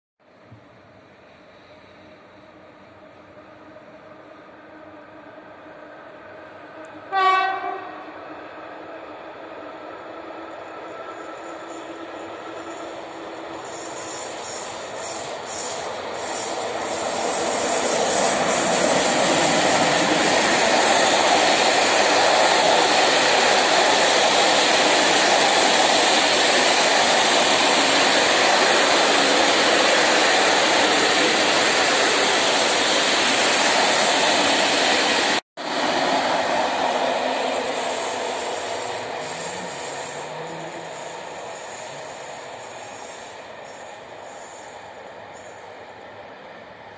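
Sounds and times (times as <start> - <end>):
train wheels rumbling on rails: 6.0 - 46.9.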